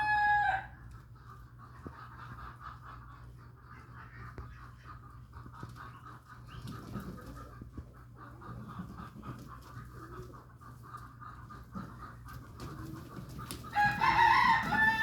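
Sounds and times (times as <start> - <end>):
animal sounds: 0.0 - 15.0
background hum: 0.0 - 15.0.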